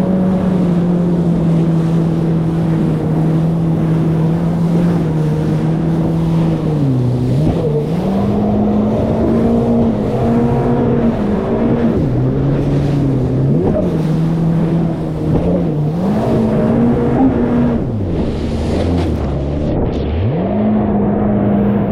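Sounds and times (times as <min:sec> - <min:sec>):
jet ski engine running: 0:00.0 - 0:21.9
water rushing: 0:00.0 - 0:21.9
wind: 0:00.0 - 0:21.9.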